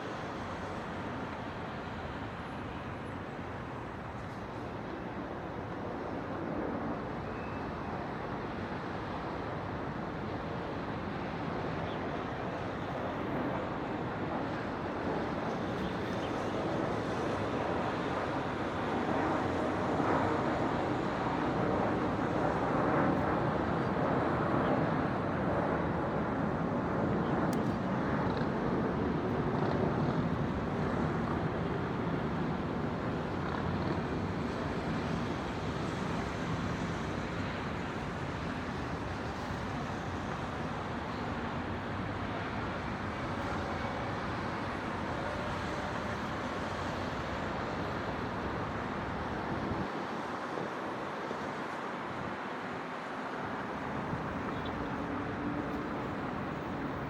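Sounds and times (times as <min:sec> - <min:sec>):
city traffic noise: 0:00.1 - 0:57.0.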